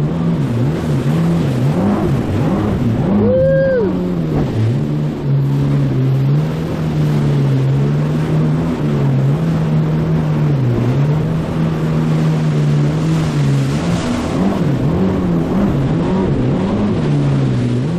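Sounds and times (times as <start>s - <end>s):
personal watercraft engine: 0.0s - 17.9s
rush of water and wind: 0.0s - 17.9s.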